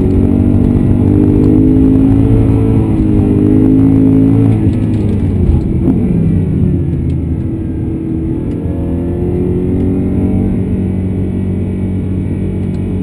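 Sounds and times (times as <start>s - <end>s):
car engine heard from cabin: 0.0s - 13.0s.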